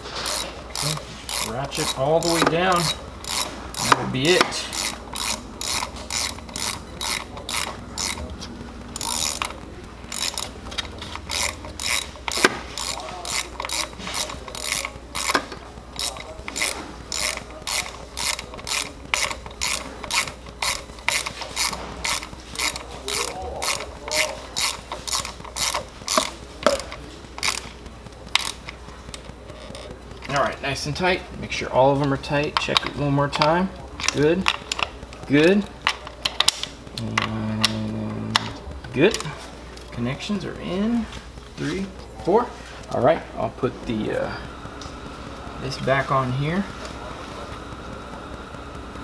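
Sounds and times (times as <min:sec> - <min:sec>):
socket ratchet clicking: 0:00.0 - 0:31.0, 0:31.6 - 0:39.9.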